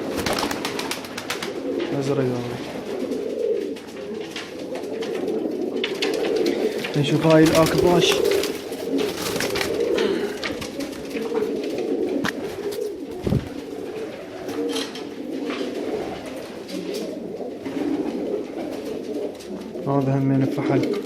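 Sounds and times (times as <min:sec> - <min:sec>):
pigeons cooing: 0:00.0 - 0:21.0
clicks and rustles of birds: 0:00.1 - 0:21.0.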